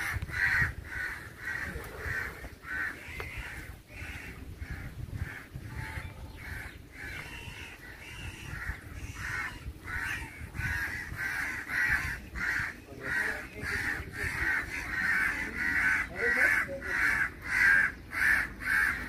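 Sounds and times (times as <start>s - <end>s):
crows cawing harshly: 0.0s - 19.0s.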